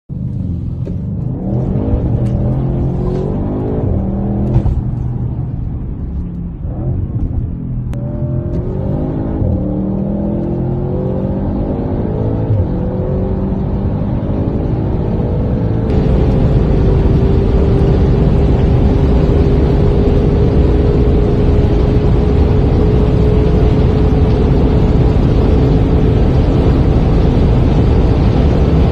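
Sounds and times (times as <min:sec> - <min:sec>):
wind and road noise: 0:00.1 - 0:28.9
car engine accelerating through upshifts: 0:00.2 - 0:05.5, 0:06.2 - 0:28.9.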